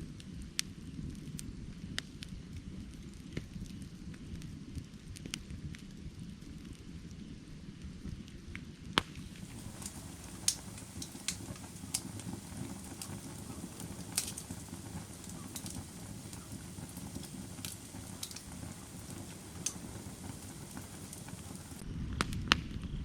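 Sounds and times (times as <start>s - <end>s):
fire rumbling: 0.0s - 23.0s
firewood crackling and popping: 0.1s - 23.0s.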